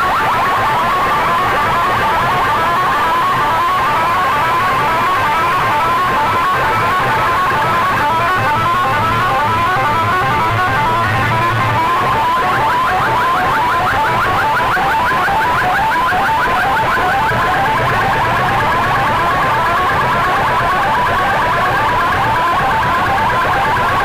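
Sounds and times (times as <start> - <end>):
loud electronic music: 4.2 - 23.6.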